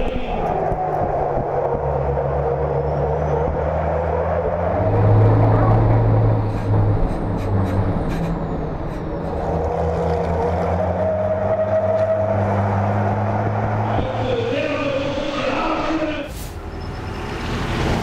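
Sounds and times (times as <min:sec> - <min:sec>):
truck diesel engine at high revs: 0:00.6 - 0:18.0.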